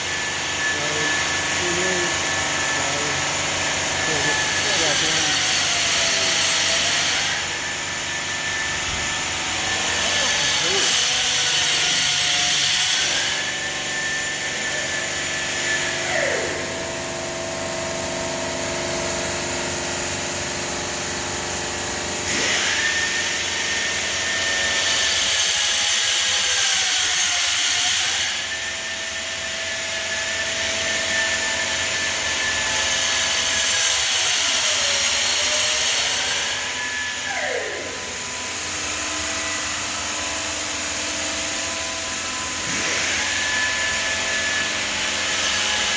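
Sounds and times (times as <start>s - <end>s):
saw machine whine: 0.0s - 45.9s.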